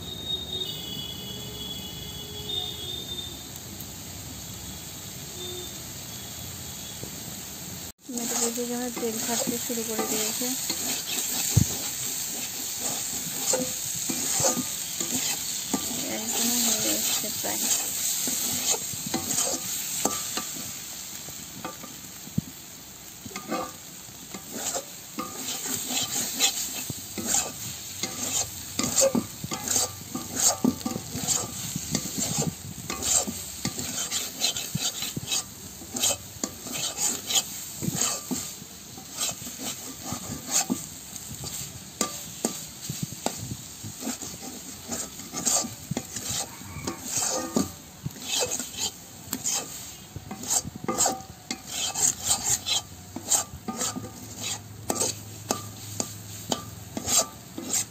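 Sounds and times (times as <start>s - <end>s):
liver and onions sizzling in oil: 0.0s - 57.9s
spatula scraping a pan: 8.1s - 22.5s, 23.1s - 57.9s.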